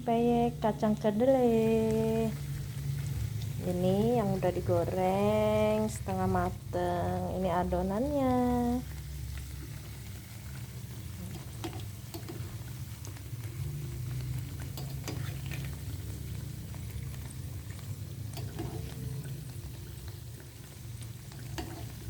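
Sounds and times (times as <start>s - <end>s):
crackers frying in hot oil: 0.0s - 22.0s.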